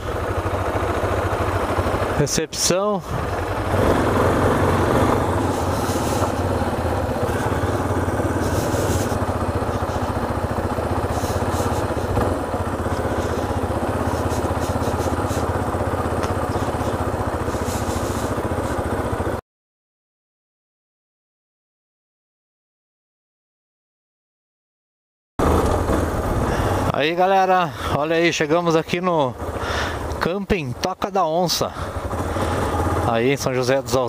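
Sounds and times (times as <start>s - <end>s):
motorcycle engine running: 0.0s - 19.4s, 25.4s - 34.0s.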